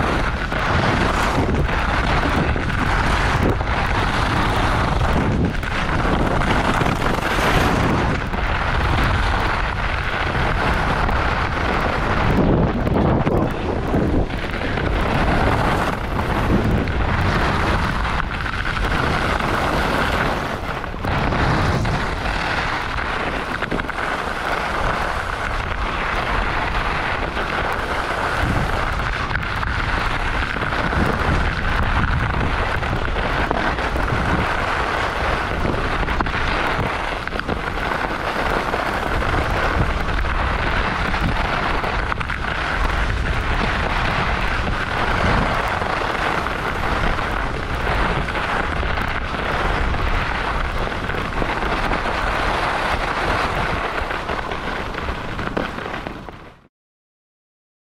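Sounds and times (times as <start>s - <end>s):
skis scraping over packed snow: 0.0s - 56.7s
wind rushing over microphone: 0.0s - 56.7s.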